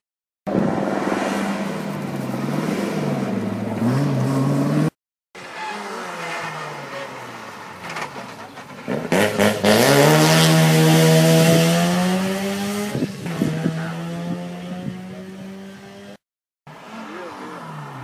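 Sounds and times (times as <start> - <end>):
rally car engine revving: 0.6 - 8.0, 8.7 - 16.2.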